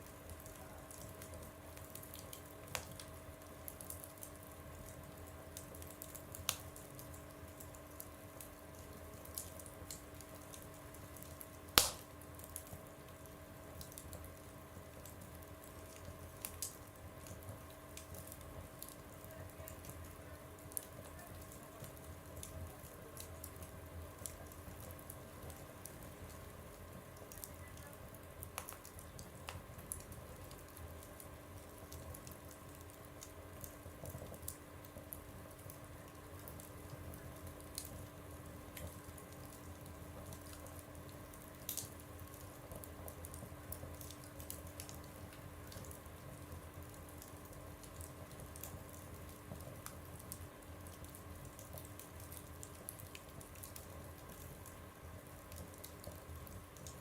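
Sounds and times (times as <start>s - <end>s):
wood fire crackling in a stove: 0.0s - 57.0s.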